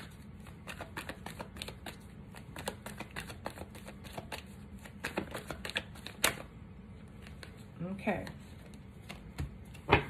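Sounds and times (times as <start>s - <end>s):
cards being shuffled: 0.0s - 6.5s, 7.1s - 7.7s, 8.4s - 10.0s.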